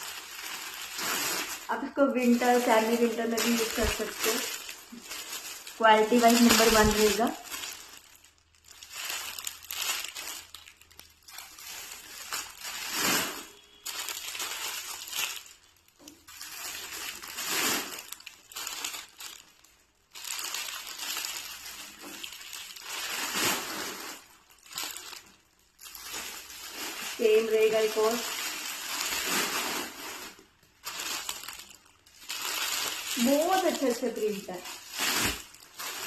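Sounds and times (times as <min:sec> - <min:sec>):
fabric and packaging rustling: 0:00.0 - 0:36.0.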